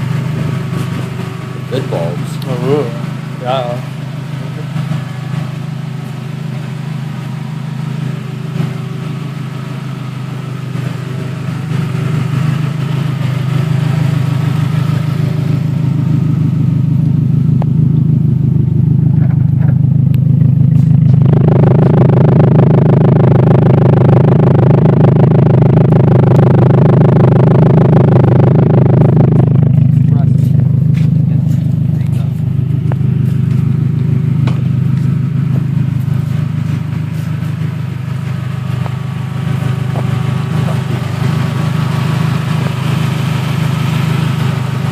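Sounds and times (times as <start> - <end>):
race car engine idling: 0.0 - 44.9.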